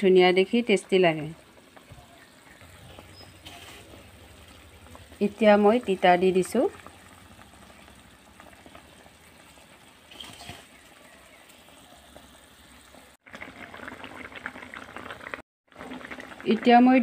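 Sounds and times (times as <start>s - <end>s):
curry bubbling in a pan: 0.0s - 17.0s.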